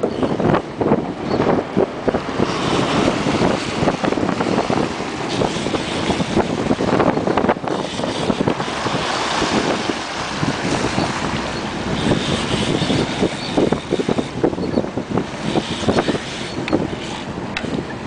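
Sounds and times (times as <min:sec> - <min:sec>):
choppy water against hull: 0:00.0 - 0:18.0
wind buffeting microphone: 0:00.0 - 0:18.0.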